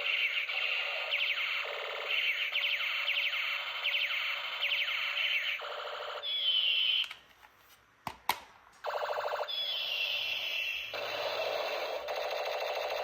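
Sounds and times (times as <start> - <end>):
toy gun electronic buzzing effects: 0.0 - 7.1, 8.9 - 13.0.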